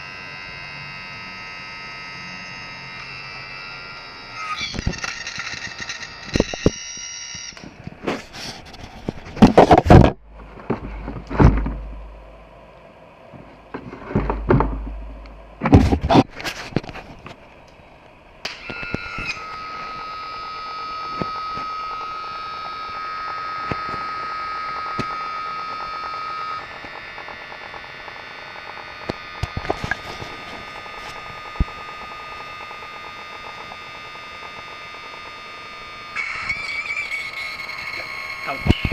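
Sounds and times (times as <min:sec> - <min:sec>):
electric pump motor whine: 0:00.0 - 0:38.9.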